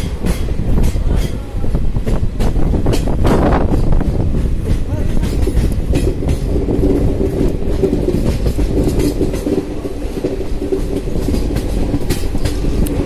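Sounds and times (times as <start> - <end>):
train rumble and hum: 0.0 - 13.0
wheels clicking over track: 2.0 - 13.0.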